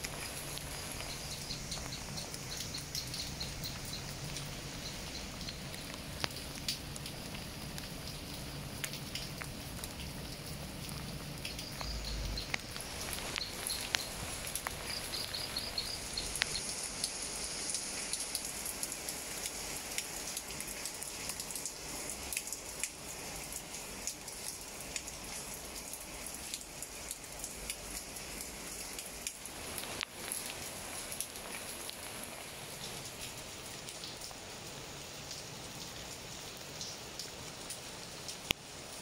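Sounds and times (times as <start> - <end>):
rain on leafy plants: 0.0 - 39.0.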